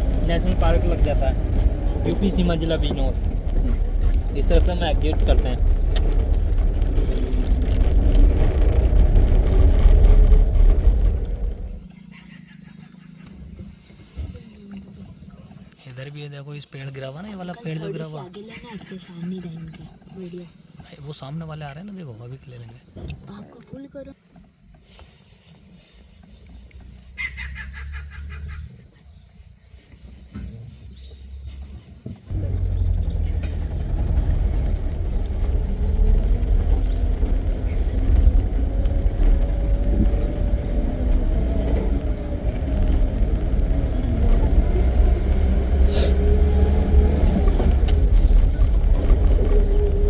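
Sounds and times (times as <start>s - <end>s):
vehicle engine driving on dirt: 0.0s - 50.0s.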